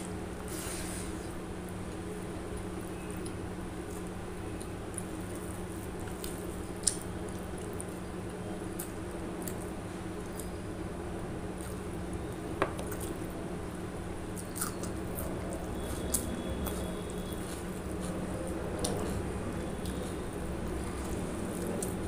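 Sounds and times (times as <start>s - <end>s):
steady low hum: 0.0s - 22.0s
chewing and wet squishing: 1.8s - 10.6s, 11.5s - 22.0s.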